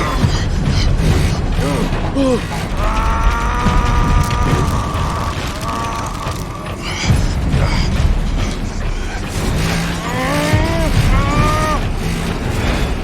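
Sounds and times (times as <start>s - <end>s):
clanking mechanical noise: 0.0s - 13.0s
heavy low rumble: 0.0s - 13.0s.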